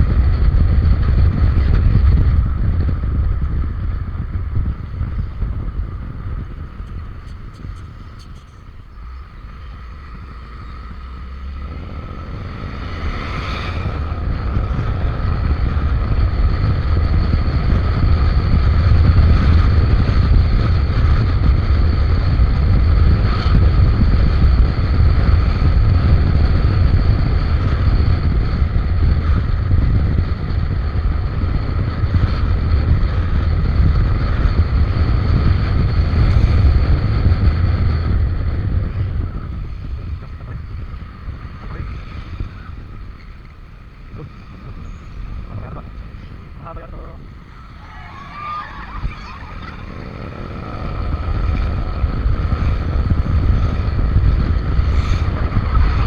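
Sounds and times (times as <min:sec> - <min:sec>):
scooter engine running: 0:00.0 - 0:56.0
wind buffeting microphone: 0:00.0 - 0:56.0.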